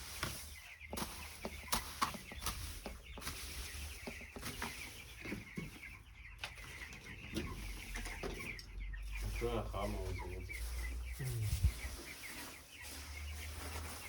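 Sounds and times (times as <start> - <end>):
chickens cheeping and clucking: 0.0 - 14.0.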